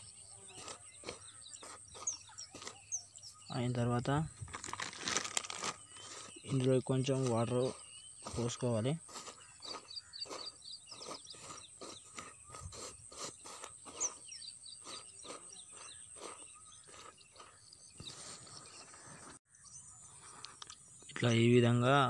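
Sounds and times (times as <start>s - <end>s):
small birds chirping: 0.0s - 22.0s
hand stirring dry bait mix: 0.4s - 18.2s.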